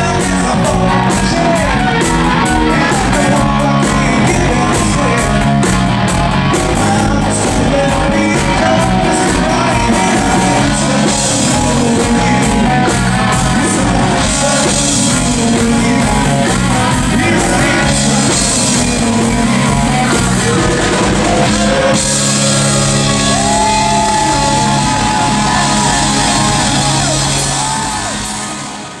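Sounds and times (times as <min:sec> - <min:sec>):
man singing lead: 0:00.0 - 0:29.0
rock band playing: 0:00.0 - 0:29.0.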